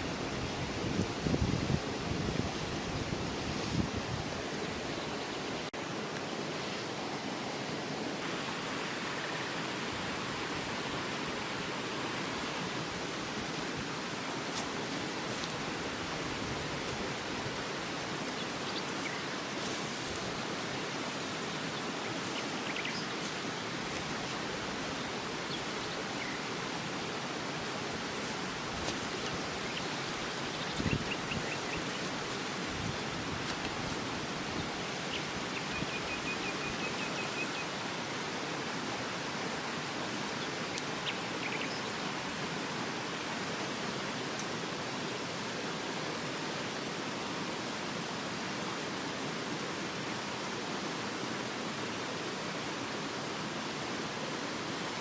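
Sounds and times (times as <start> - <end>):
stream rushing: 0.0 - 55.0.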